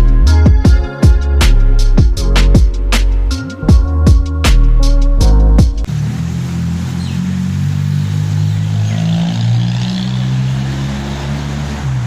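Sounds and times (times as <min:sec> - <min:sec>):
vehicle engine humming: 0:02.0 - 0:12.0.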